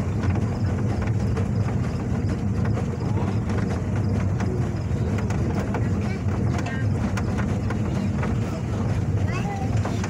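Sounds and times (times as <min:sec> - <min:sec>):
motorboat engine rumble: 0:00.0 - 0:10.0.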